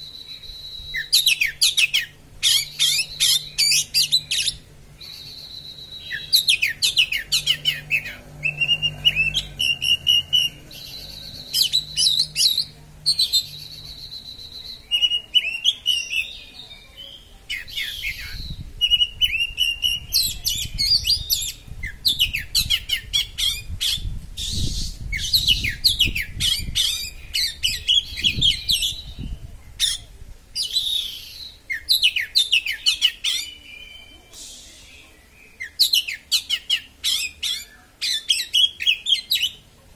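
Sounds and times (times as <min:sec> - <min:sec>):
bird singing shrill trills: 0:00.0 - 0:30.0, 0:30.6 - 0:39.6.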